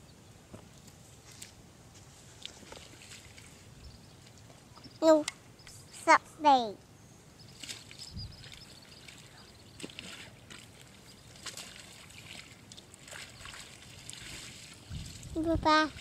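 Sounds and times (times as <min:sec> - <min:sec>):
muddy water sloshing: 0:00.9 - 0:06.1, 0:07.4 - 0:16.0.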